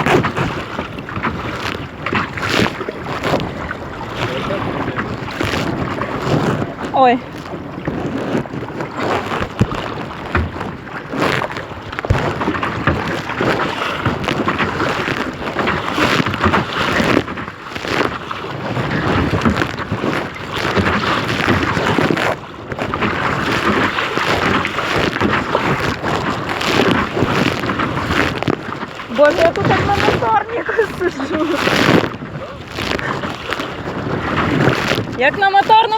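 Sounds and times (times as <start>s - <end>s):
water slapping against kayak: 0.0s - 35.9s
wind buffeting microphone: 0.0s - 35.9s.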